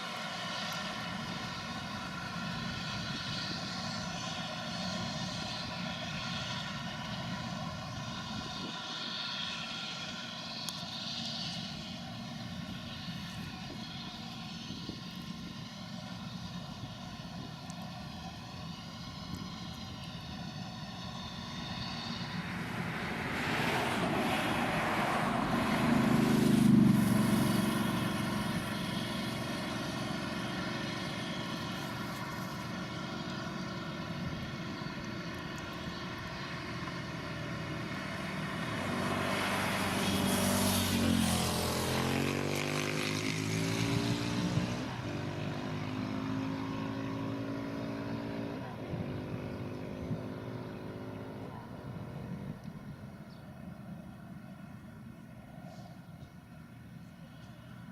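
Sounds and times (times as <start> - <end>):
farm machine engine passing: 0.0 - 57.9.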